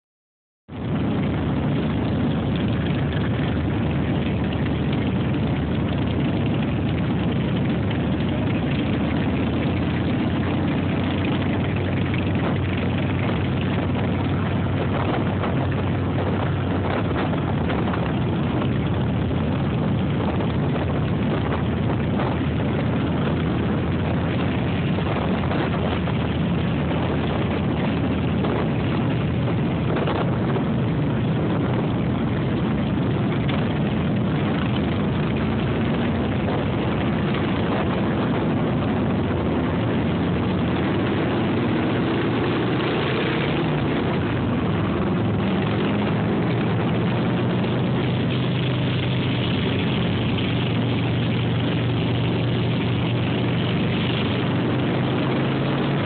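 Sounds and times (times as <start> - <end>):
motorcycle engine running: 0.7 - 56.0
wind and road noise: 0.7 - 56.0.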